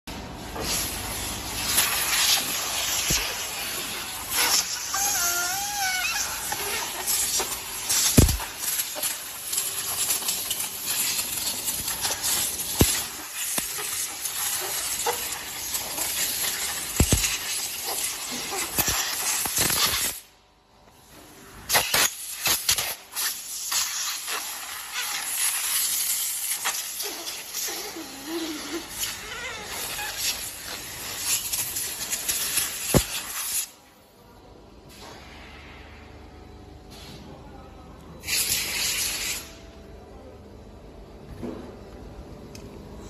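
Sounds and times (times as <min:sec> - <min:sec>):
hissing factory machinery: 0:00.1 - 0:43.0.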